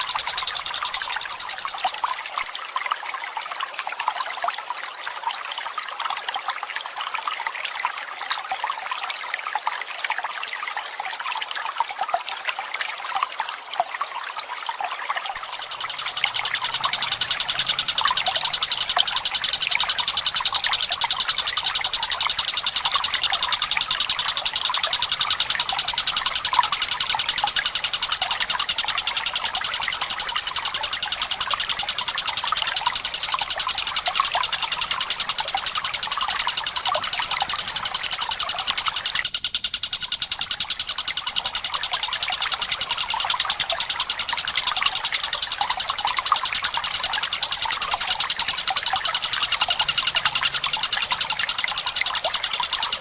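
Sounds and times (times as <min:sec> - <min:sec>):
trickling water: 0:00.0 - 0:53.0.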